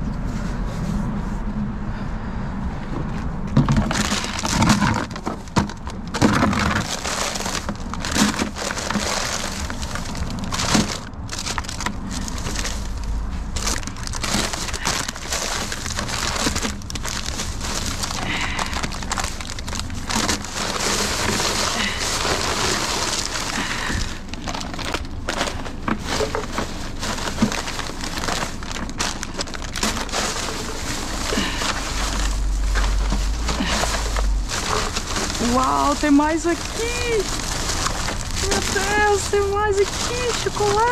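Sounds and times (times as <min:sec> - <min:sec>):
packages knocking: 0:03.5 - 0:40.9
plastic bags rustling: 0:03.5 - 0:40.9.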